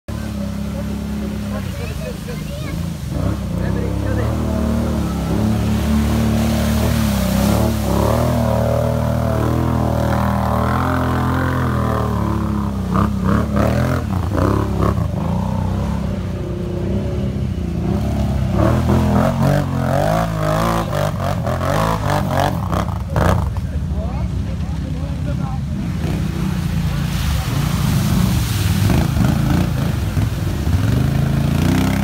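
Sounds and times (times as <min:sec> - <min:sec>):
quad bike engine revving: 0:00.1 - 0:23.8, 0:25.8 - 0:32.0.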